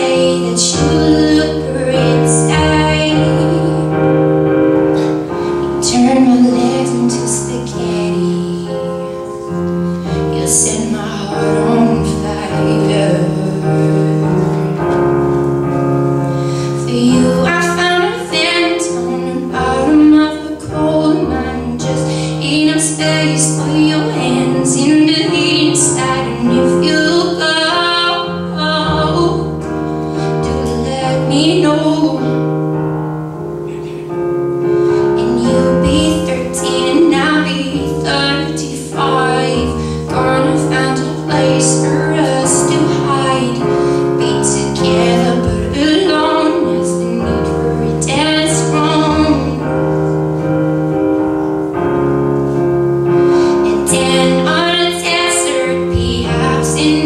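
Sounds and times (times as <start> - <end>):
woman singing: 0.0 - 4.8, 5.7 - 14.8, 16.5 - 32.5, 34.9 - 49.9, 53.4 - 57.0
sustained piano chords: 0.0 - 57.0.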